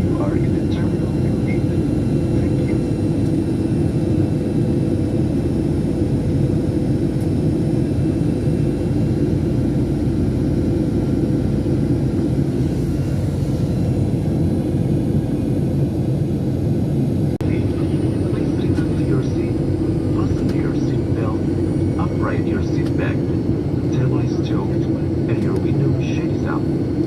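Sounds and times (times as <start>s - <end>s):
airliner cabin engine drone: 0.0s - 27.0s
faint steady hums: 0.0s - 27.0s.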